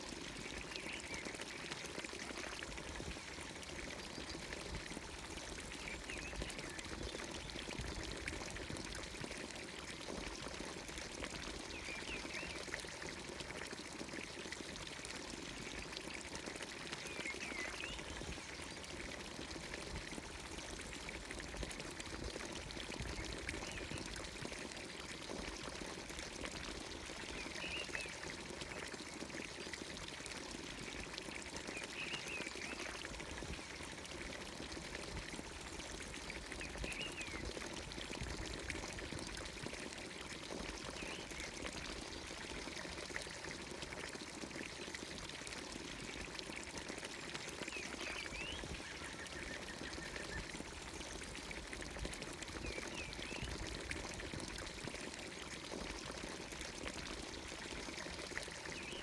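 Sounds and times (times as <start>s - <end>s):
water pouring into fountain basin: 0.0s - 59.0s.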